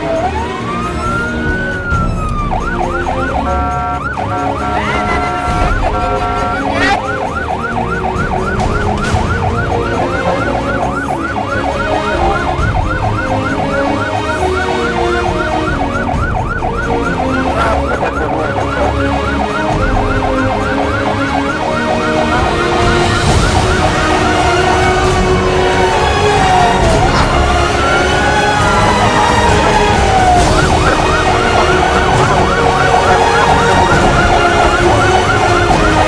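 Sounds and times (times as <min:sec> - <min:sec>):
fire engine siren yelping: 0:00.0 - 0:36.0
truck engine drone: 0:00.0 - 0:36.0.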